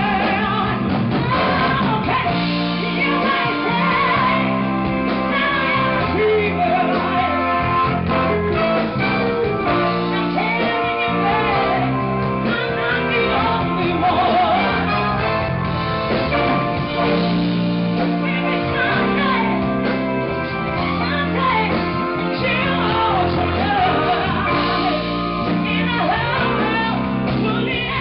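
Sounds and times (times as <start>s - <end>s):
live band playing: 0.0s - 28.0s
wavering lead melody: 0.0s - 28.0s.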